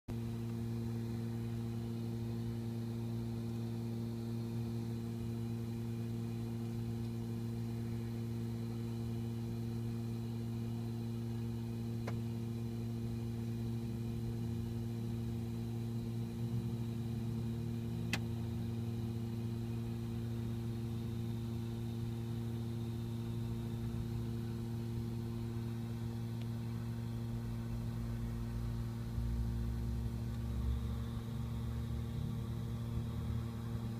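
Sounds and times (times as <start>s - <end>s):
low mechanical hum: 0.1s - 33.9s.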